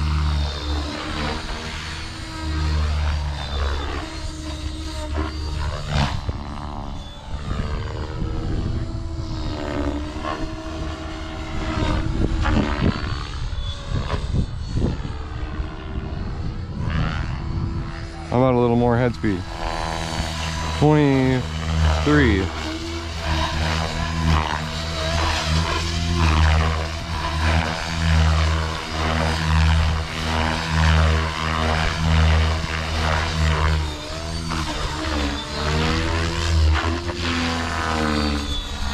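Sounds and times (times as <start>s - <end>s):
rc helicopter rotor and motor whine: 0.0s - 38.9s.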